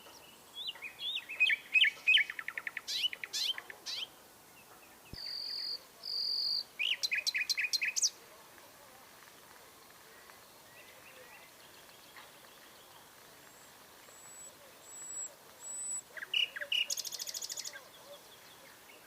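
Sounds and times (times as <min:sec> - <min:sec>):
nightingale singing: 0:00.0 - 0:04.2, 0:05.1 - 0:08.1, 0:10.7 - 0:19.0
faint bird chirps: 0:00.0 - 0:08.1, 0:10.1 - 0:19.0.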